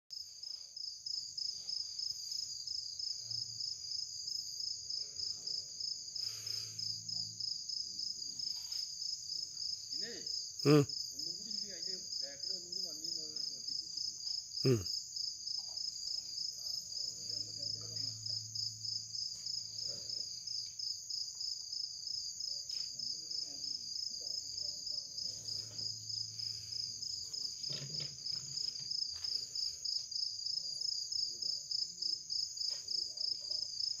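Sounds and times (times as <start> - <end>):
crickets chirping: 0.1 - 34.0.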